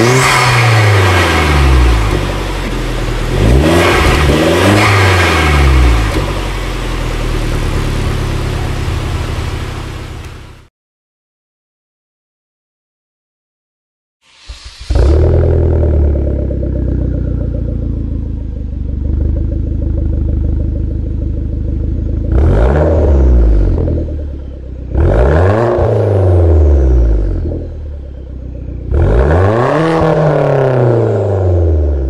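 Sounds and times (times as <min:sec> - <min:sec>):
car engine idling and revving: 0:00.0 - 0:10.7, 0:14.8 - 0:32.0.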